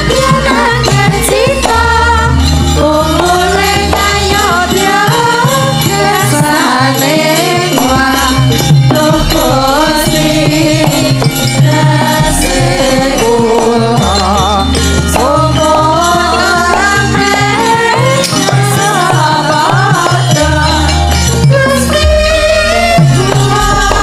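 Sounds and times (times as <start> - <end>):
long low ringing tones: 0.0 - 18.2, 19.7 - 24.0
gamelan accompaniment: 0.0 - 24.0
women singing ornamented melody: 0.0 - 24.0.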